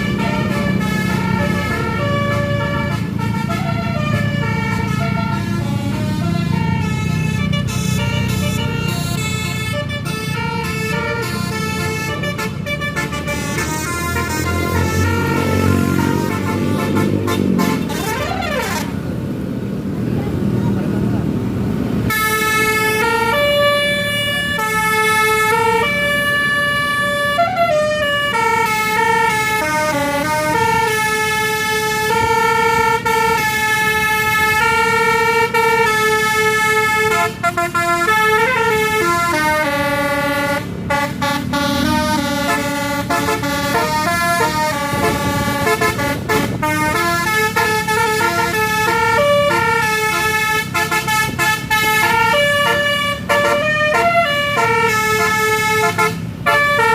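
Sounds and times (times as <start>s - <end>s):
multi-tone air horn melody: 0.0s - 19.0s, 22.1s - 56.9s
low engine hum: 0.0s - 56.9s.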